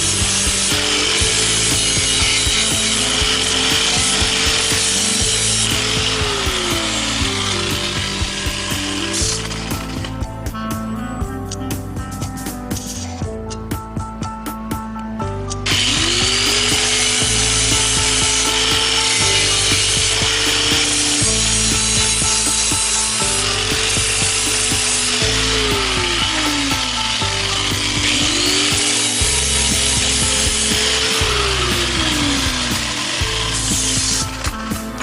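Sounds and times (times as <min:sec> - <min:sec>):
power tool rasping: 0:00.0 - 0:13.3, 0:15.5 - 0:35.0
background music with chords: 0:00.0 - 0:35.0.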